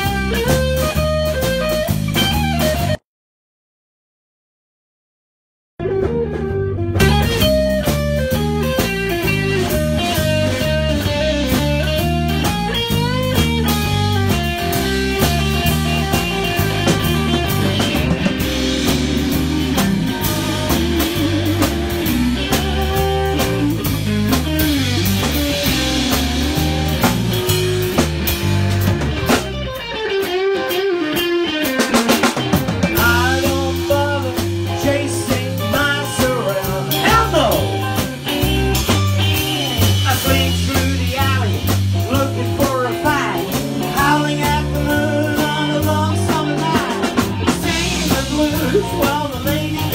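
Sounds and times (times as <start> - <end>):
blues-rock band playing: 0.0 - 3.0, 5.8 - 49.9
drum kit: 0.0 - 3.0, 5.8 - 49.9
electric guitar lines: 0.0 - 3.0, 5.8 - 49.9.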